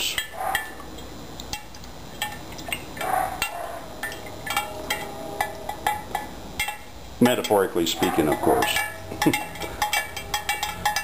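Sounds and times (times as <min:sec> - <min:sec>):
spoon clinking against glass jar: 0:01.5 - 0:11.0.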